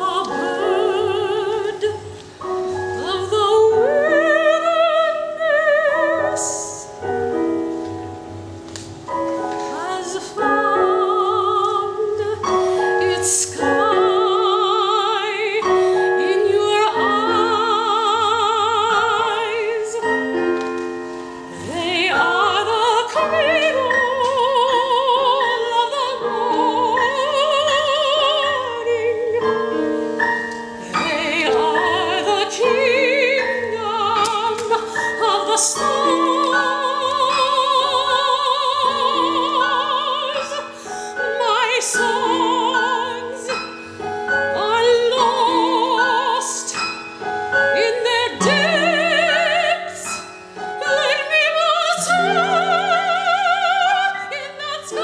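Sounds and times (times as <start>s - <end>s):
woman singing operatic style: 0.0s - 7.5s, 9.5s - 55.0s
digital piano chords: 0.0s - 55.0s.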